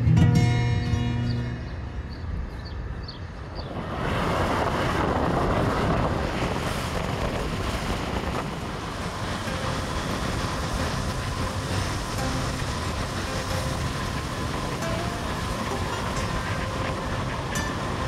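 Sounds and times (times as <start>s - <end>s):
road and engine rumble: 0.0s - 18.0s
wind rushing over microphone: 1.3s - 18.0s.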